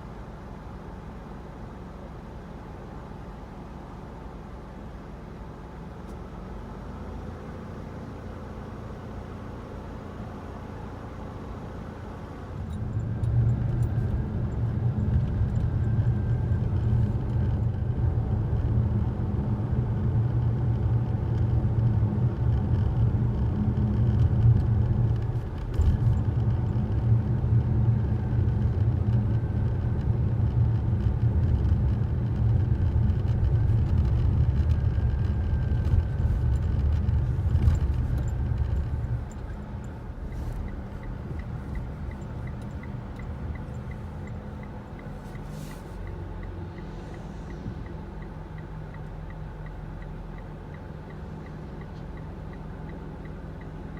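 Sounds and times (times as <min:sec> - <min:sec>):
car cabin low rumble: 0:00.0 - 0:53.9.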